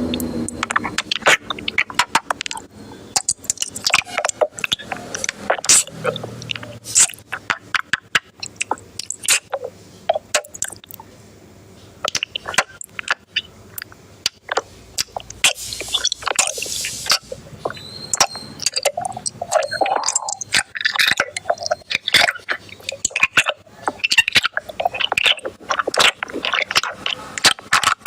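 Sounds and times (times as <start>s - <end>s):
crunchy bites and chewing: 0.0s - 11.0s, 12.0s - 28.0s.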